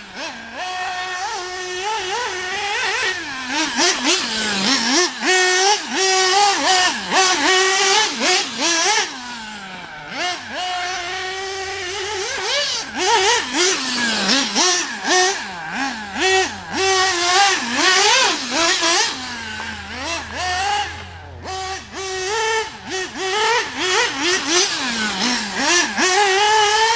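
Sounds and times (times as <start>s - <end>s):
nitro engine revving and idling: 0.0s - 26.9s.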